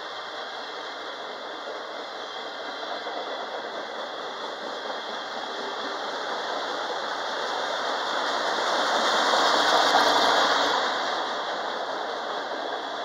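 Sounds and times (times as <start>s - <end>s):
train wheel and rail noise: 0.0s - 13.0s.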